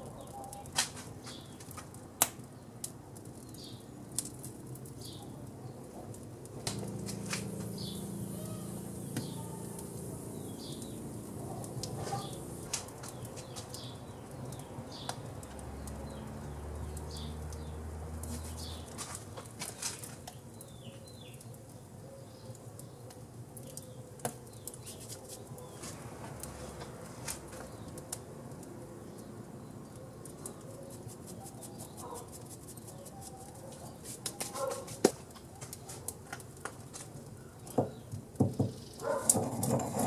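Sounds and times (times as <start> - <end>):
small birds chirping: 0.0 - 1.8, 2.4 - 6.0, 6.8 - 39.3
wood fire crackling: 0.0 - 40.0.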